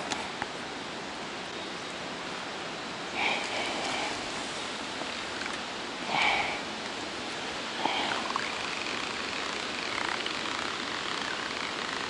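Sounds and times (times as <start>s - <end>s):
river water flowing: 0.0s - 12.0s
wind: 0.0s - 12.0s.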